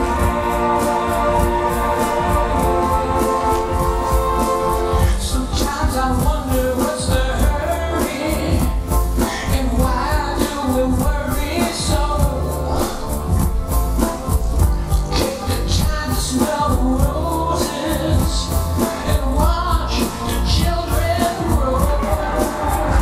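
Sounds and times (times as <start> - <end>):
rock music: 0.0 - 23.0.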